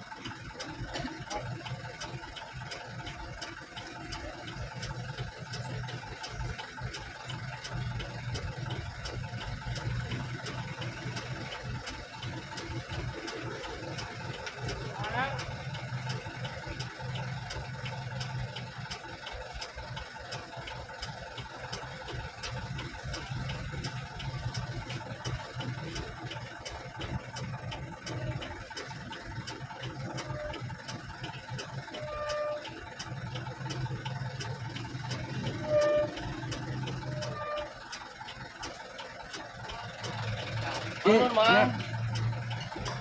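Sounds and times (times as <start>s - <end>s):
regular ticking: 0.0s - 43.0s
truck engine running: 0.0s - 43.0s.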